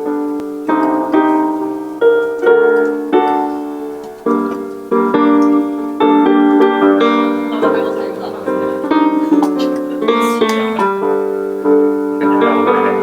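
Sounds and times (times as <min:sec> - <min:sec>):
piano melody over chords: 0:00.0 - 0:13.0.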